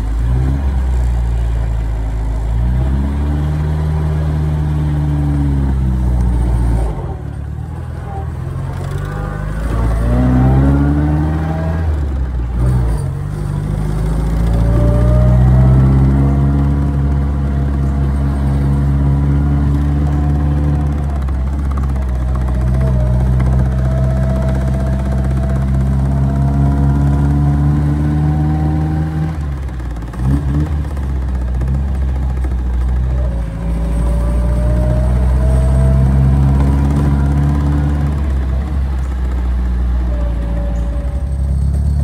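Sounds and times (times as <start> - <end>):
car engine revving while driving: 0.0 - 7.4, 8.1 - 42.0.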